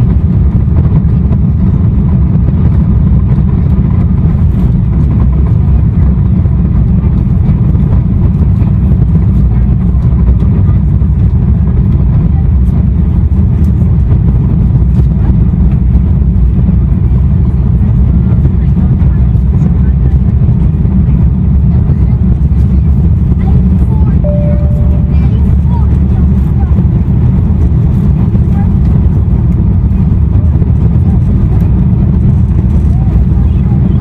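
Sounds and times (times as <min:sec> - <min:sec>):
airliner engines rumbling: 0:00.0 - 0:34.0.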